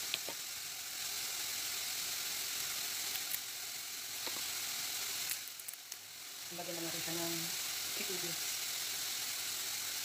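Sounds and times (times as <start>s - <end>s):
small crackles: 0.0s - 10.0s
vegetables sizzling in a pan: 0.0s - 10.0s.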